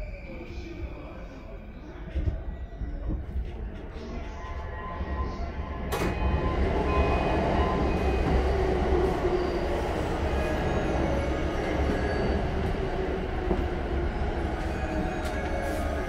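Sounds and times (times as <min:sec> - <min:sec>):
train doors sliding open: 0:03.0 - 0:16.0.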